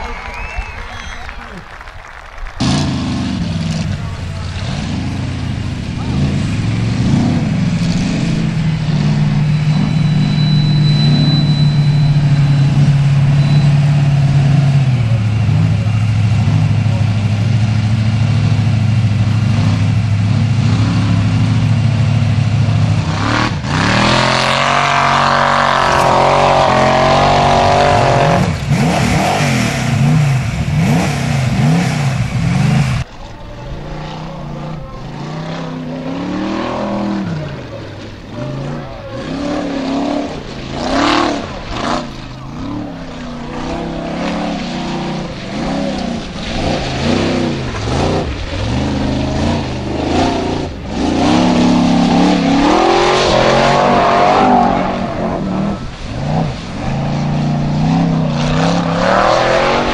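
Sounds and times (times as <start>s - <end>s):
off-road car engine revving: 2.5s - 59.9s.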